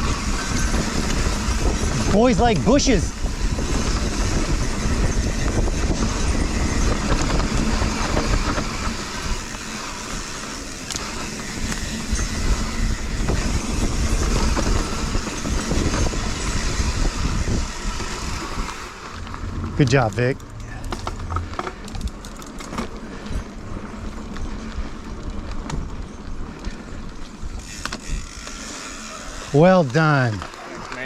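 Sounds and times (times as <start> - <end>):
bike rattling over ground: 0.0 - 31.0
bike rolling on dirt trail: 0.0 - 31.0.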